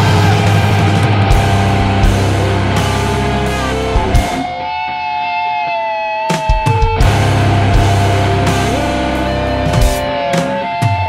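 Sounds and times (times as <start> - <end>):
rock band music: 0.0 - 11.0.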